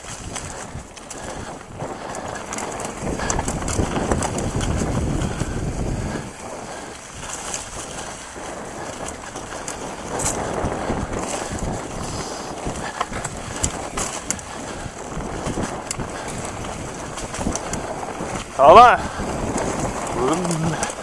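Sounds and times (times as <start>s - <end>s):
bike clattering over bumps: 0.0s - 21.0s
tyres crunching through leaves: 0.0s - 21.0s
wind buffeting microphone: 0.0s - 21.0s.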